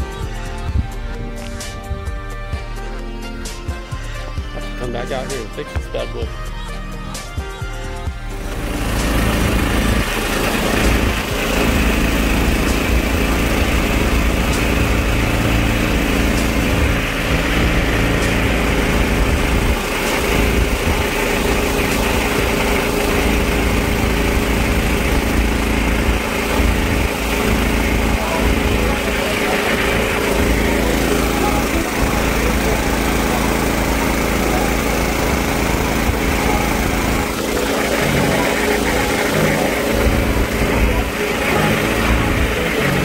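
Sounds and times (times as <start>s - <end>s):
boat motor running: 8.0s - 43.0s.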